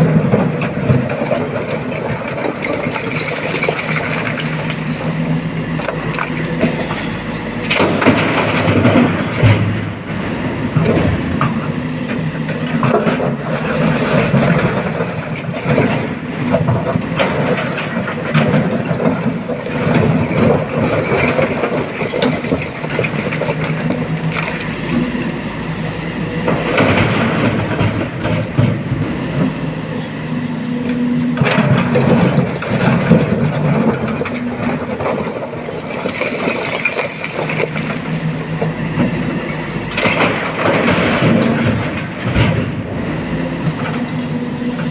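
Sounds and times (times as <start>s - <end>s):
excavator diesel engine under load: 0.0s - 44.9s.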